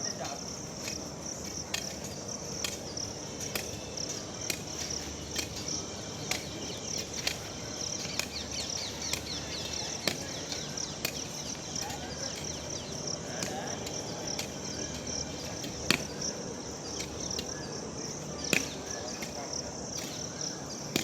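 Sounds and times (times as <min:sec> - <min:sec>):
cricket and insect chorus: 0:00.0 - 0:21.0.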